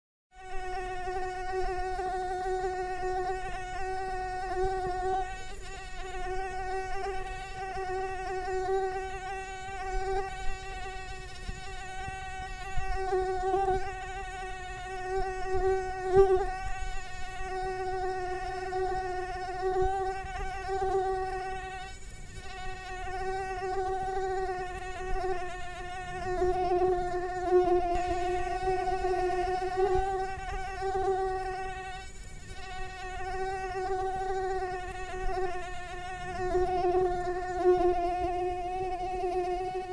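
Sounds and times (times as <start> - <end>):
mosquito whine: 0.3 - 39.9.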